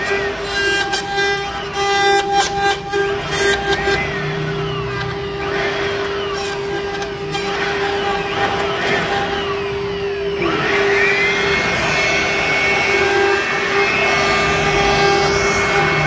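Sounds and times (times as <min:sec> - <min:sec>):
bit cutting wood: 0:00.0 - 0:16.0
drive motors shifting pitch: 0:00.0 - 0:16.0
router spindle whine: 0:00.0 - 0:16.0.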